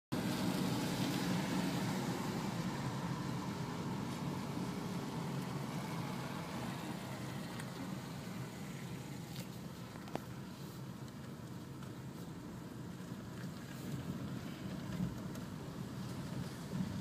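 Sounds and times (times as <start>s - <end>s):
car engine and tyre noise: 0.1s - 17.0s.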